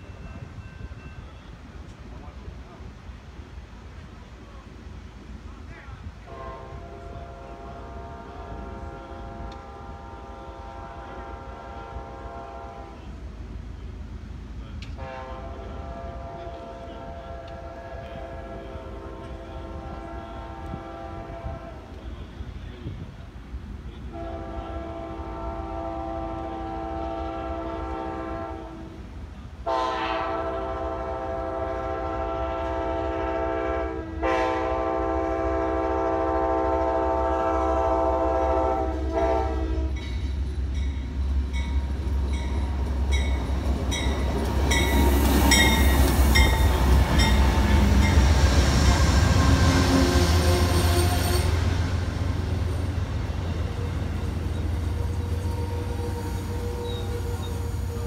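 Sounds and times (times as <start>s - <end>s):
diesel locomotive rumble: 0.0s - 58.0s
train horn: 6.2s - 13.2s, 14.8s - 22.5s, 24.0s - 41.7s, 42.3s - 58.0s.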